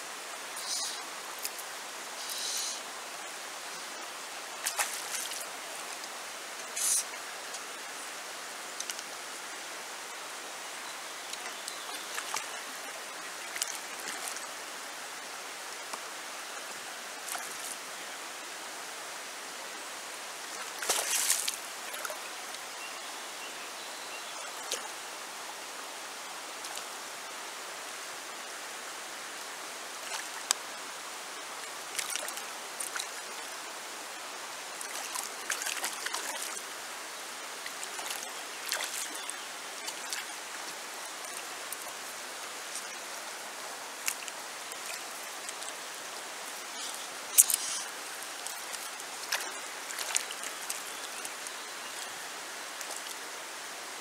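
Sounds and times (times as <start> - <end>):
river water rushing over stones: 0.0 - 54.0.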